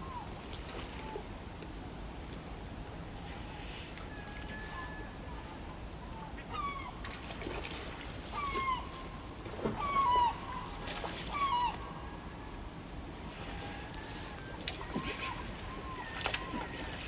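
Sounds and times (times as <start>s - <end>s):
gulls calling: 0.0s - 1.3s, 3.2s - 17.0s.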